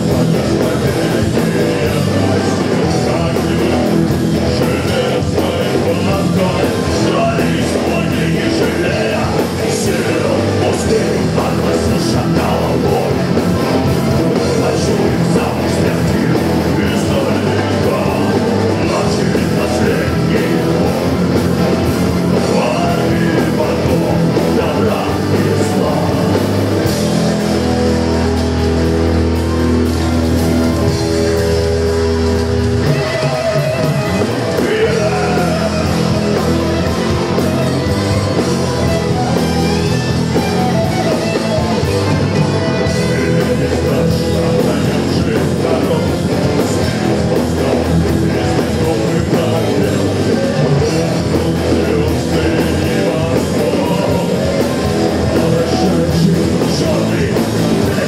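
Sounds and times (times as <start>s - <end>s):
person singing: 0.0s - 26.8s, 32.8s - 58.0s
distorted electric guitar: 0.0s - 58.0s
drum kit: 0.0s - 58.0s
keyboard: 0.0s - 58.0s.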